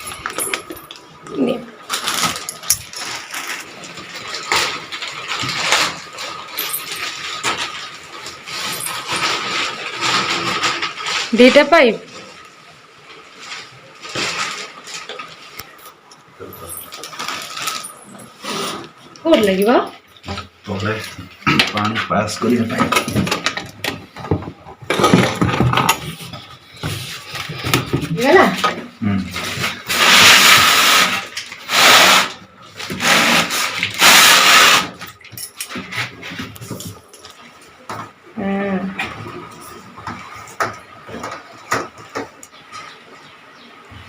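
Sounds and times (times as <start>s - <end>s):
hoses rustling and knocking: 0.0s - 38.3s, 38.9s - 44.0s.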